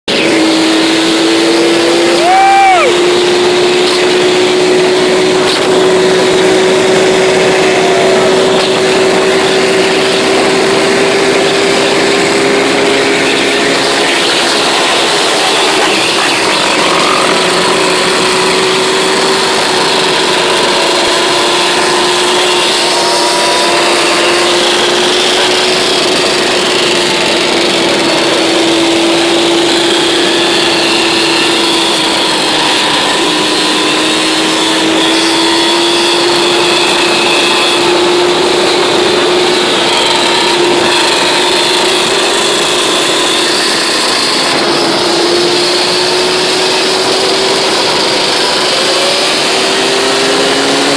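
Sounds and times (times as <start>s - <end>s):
quad engine droning: 0.0s - 50.9s.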